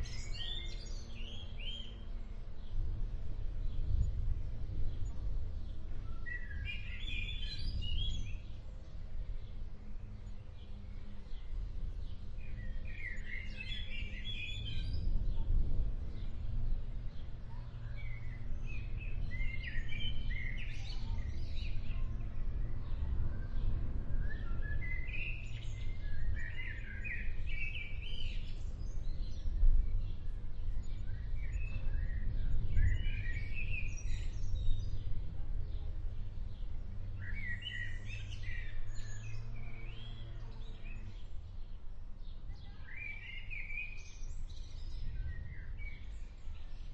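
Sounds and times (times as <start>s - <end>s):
birds chirping: 0.0s - 46.9s
steady low rumble: 2.3s - 42.5s.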